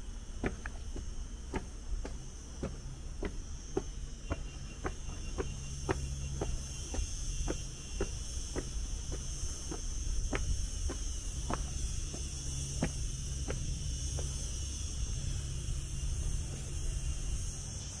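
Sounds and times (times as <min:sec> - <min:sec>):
footsteps on stone: 0:00.0 - 0:17.6
low wind rumble on microphone: 0:00.0 - 0:18.0.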